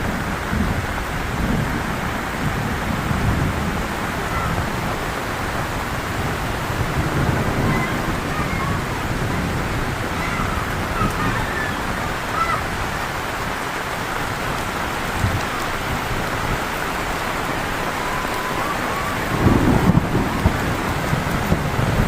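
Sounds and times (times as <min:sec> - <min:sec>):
low rumble of thunder: 0:00.0 - 0:13.0, 0:14.4 - 0:22.0
heavy rain falling: 0:00.0 - 0:22.0.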